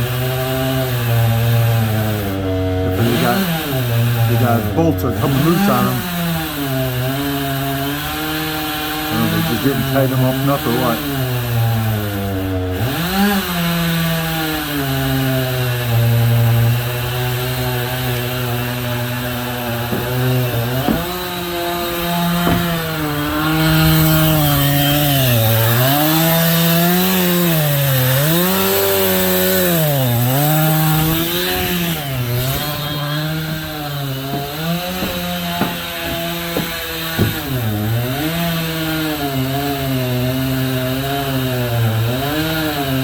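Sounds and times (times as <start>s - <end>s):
chainsaw cutting log: 0.0s - 43.0s.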